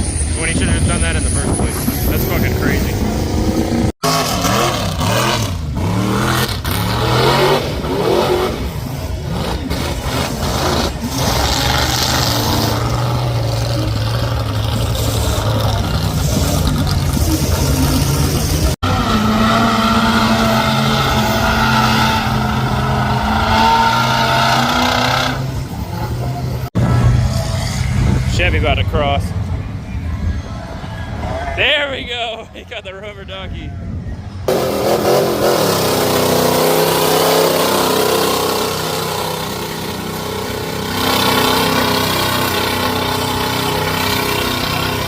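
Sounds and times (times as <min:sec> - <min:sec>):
truck engine revving: 0:00.0 - 0:29.4, 0:34.5 - 0:45.0.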